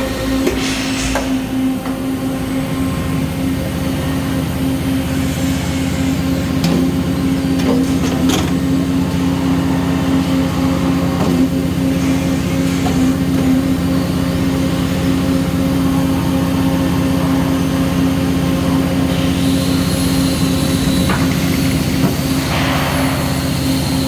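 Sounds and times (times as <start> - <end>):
loud machine hum: 0.0 - 24.0.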